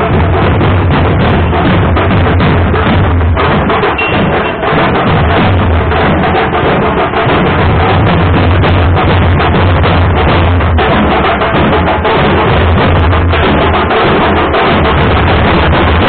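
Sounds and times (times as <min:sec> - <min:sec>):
fast loud drumming: 0:00.0 - 0:16.0.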